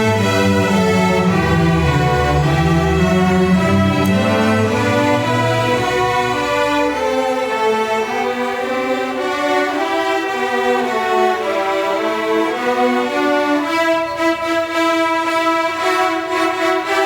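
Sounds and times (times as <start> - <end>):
orchestra strings slow melody: 0.0 - 17.0.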